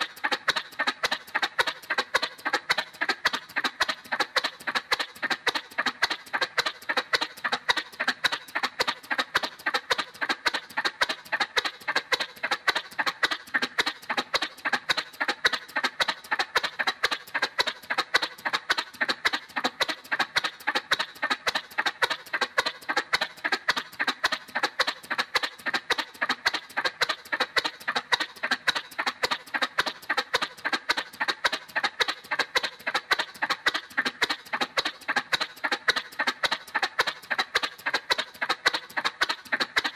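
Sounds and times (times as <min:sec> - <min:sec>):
cartoon motorcycle putt-putt: 0:00.0 - 0:39.9.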